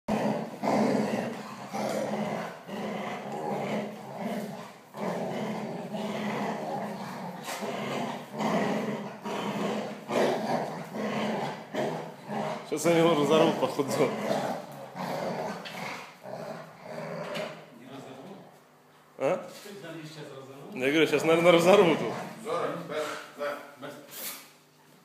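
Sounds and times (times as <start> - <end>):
dogs growling: 0.0 - 18.6, 21.1 - 23.3.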